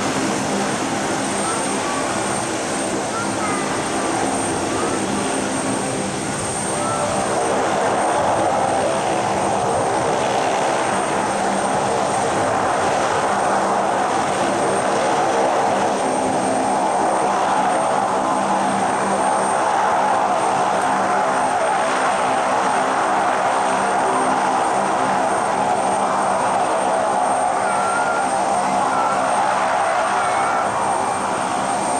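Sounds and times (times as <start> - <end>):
high turbine whine: 0.0 - 31.9
propeller drone: 0.0 - 31.9.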